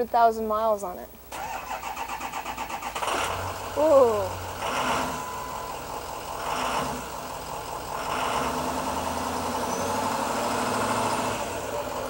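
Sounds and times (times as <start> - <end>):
diesel engine idling: 1.3 - 12.0.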